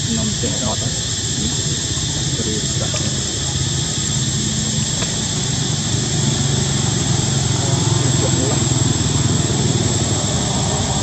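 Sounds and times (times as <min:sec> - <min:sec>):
low engine-like drone: 0:00.0 - 0:11.0
thin high whine: 0:00.0 - 0:11.0.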